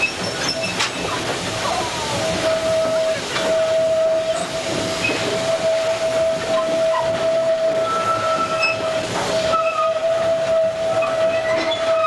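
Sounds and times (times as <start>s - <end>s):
steam train rushing hiss: 0.0s - 12.0s.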